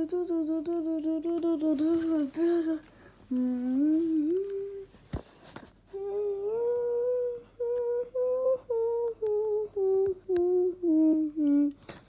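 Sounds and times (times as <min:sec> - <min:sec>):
person humming a tune: 0:00.0 - 0:04.9, 0:05.9 - 0:12.0.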